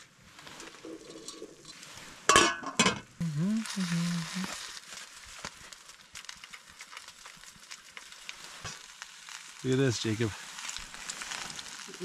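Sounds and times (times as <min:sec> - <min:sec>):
small crackles: 0:00.0 - 0:02.3, 0:03.2 - 0:12.0
food sizzling on a stove: 0:00.0 - 0:12.0.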